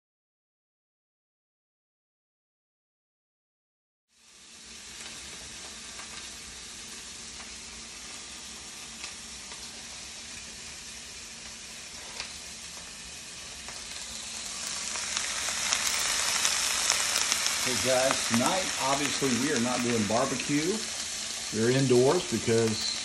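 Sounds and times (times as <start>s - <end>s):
food sizzling in a pan: 4.1s - 23.0s
small pops of frying: 4.2s - 23.0s.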